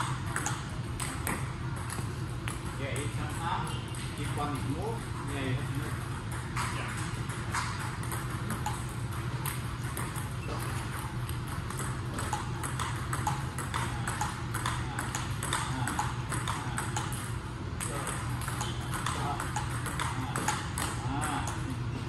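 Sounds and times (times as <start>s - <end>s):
table tennis ball clicking: 0.0s - 3.3s, 6.3s - 21.6s
steady low hum: 0.0s - 22.0s.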